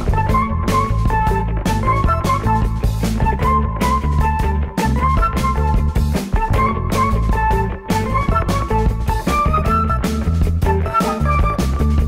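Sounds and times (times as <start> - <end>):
steady drum beat: 0.0 - 12.0
upbeat plucked melody music: 0.0 - 12.0.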